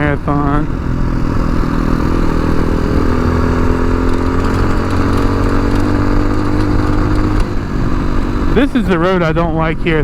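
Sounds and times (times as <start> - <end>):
motorcycle engine running: 0.0 - 9.8
low wind rumble: 0.0 - 10.0.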